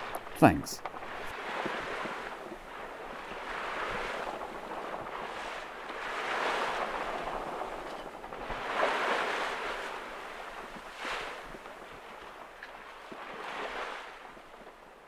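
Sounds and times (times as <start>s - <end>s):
sea splashing along hull: 0.0s - 15.0s
wind: 0.0s - 15.0s.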